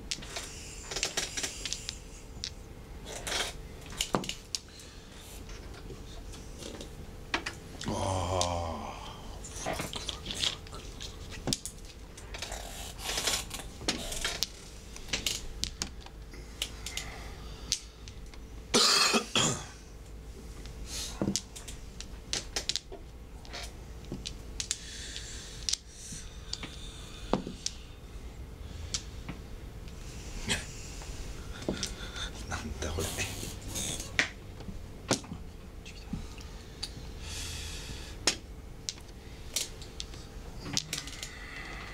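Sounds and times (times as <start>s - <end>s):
faint hum: 0.0s - 41.9s.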